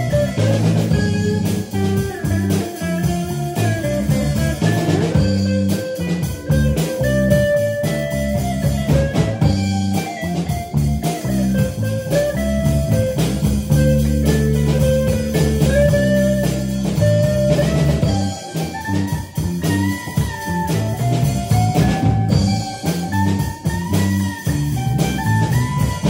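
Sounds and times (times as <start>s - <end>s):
drum kit: 0.0s - 26.0s
electric guitars holding notes: 0.0s - 26.0s.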